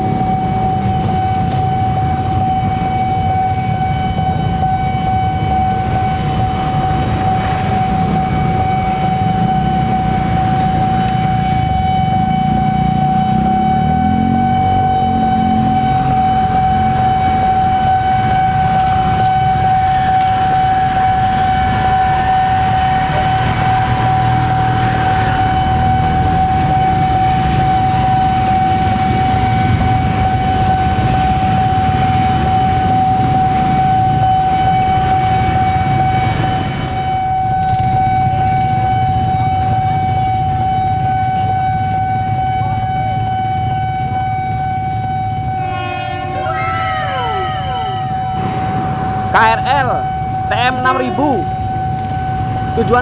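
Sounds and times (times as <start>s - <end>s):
level crossing alarm steady tone: 0.0s - 53.0s
motorcycle and traffic engines idling: 0.0s - 53.0s.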